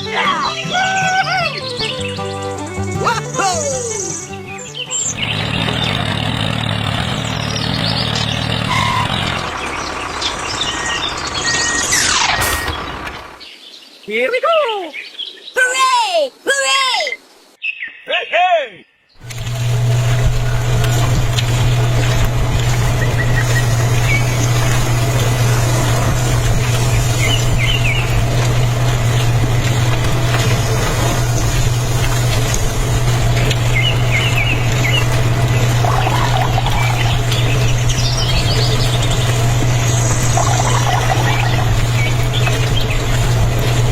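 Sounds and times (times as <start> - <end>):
motor humming: 0.0 - 13.4, 19.2 - 43.9
vehicle engine running: 0.0 - 13.5, 19.2 - 43.9.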